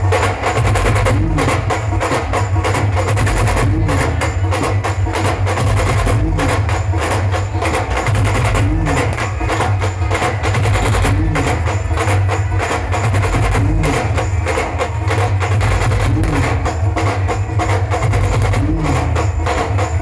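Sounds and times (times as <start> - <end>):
drum ensemble playing fast groove: 0.0 - 20.0.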